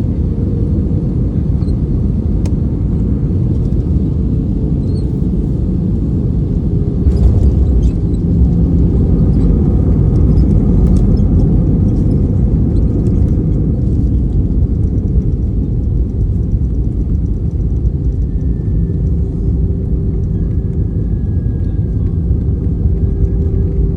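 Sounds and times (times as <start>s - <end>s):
airliner landing rumble: 0.0s - 23.9s.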